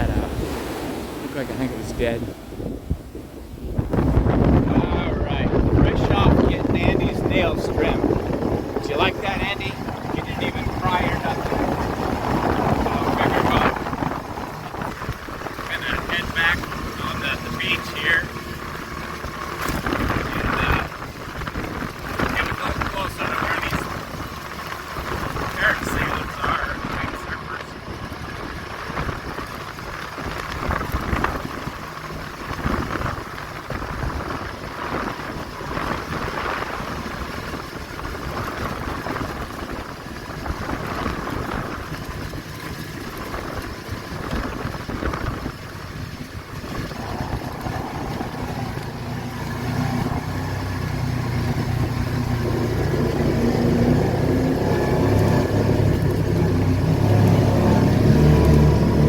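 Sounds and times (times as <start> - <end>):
car engine rumble: 0.0 - 59.0
road noise: 0.0 - 59.0.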